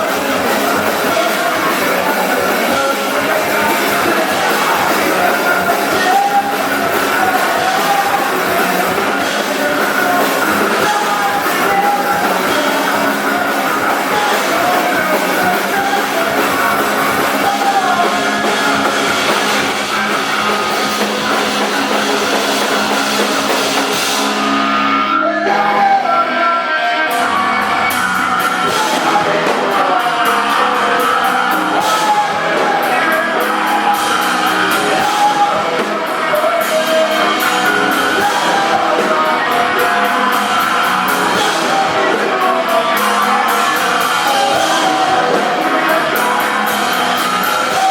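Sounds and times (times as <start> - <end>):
rock band playing loudly: 0.0 - 47.9.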